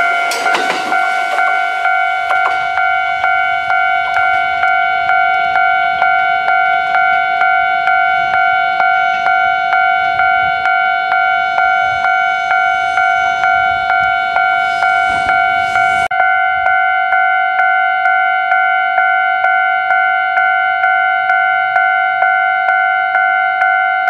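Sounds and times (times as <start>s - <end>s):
level crossing bell ringing: 0.0s - 24.0s.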